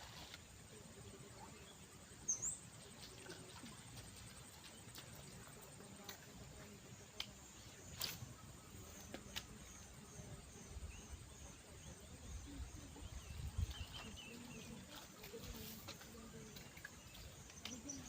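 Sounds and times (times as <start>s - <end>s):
small birds chirping: 0.9s - 18.0s
insects calling: 1.4s - 18.0s.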